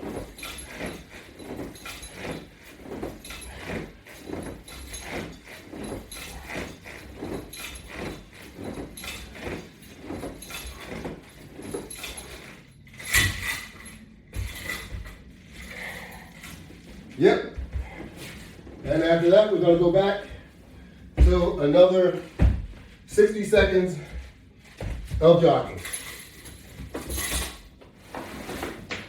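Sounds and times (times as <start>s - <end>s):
rhythmic rustle and clink of strap: 0.0s - 29.0s.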